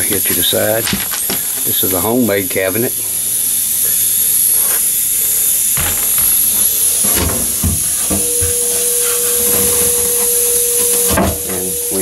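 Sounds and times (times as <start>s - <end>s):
loud hiss: 0.0s - 12.0s
thin whine: 0.0s - 12.0s.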